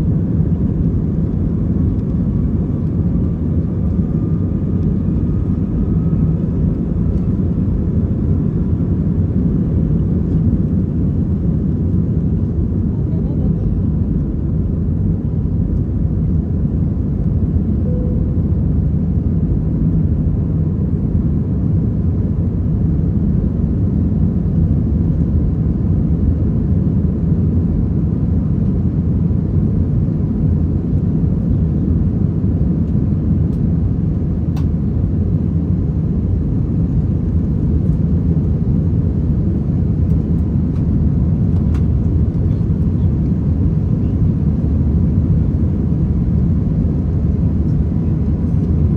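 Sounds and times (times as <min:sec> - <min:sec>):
jet engine rumble: 0:00.0 - 0:48.9.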